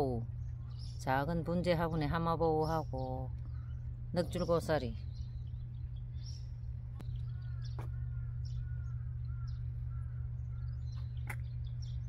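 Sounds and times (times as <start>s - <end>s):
bird calling: 0.0s - 12.0s
steady low hum: 0.0s - 12.0s.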